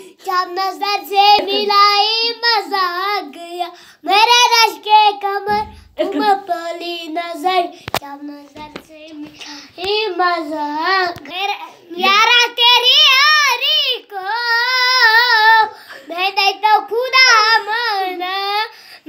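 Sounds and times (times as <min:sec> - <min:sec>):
boy singing in a high voice: 0:00.0 - 0:19.0.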